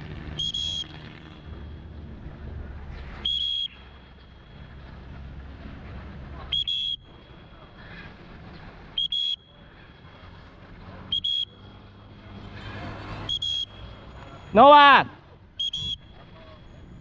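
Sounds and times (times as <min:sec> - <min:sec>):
low city hum: 0:00.0 - 0:17.0.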